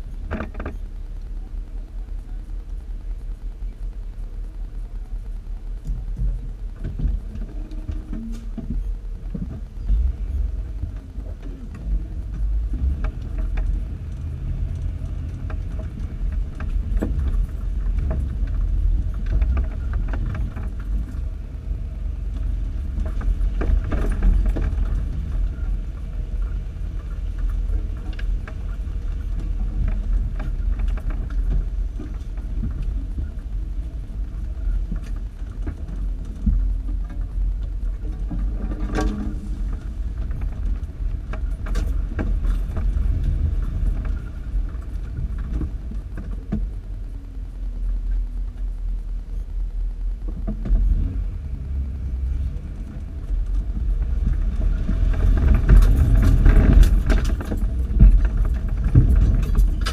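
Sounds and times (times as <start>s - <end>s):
engine and drivetrain rumble: 0.0s - 59.9s
body and suspension rattling: 2.5s - 48.8s, 50.0s - 59.9s.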